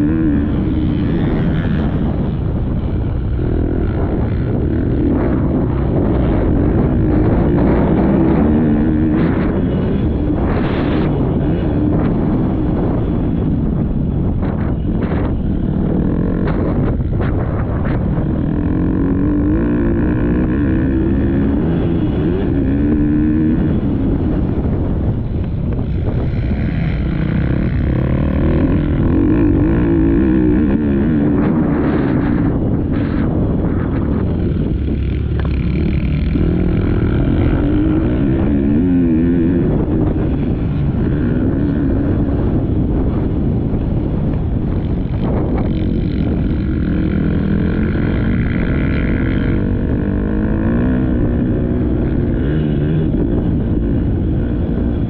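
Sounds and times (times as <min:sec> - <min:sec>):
motocross bike engine revving: 0:00.0 - 0:55.0
wind buffeting microphone: 0:00.0 - 0:55.0.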